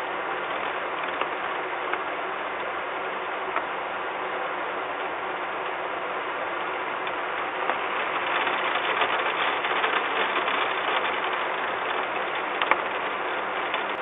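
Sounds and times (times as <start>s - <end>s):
heavy rain pattering: 0.0s - 14.0s.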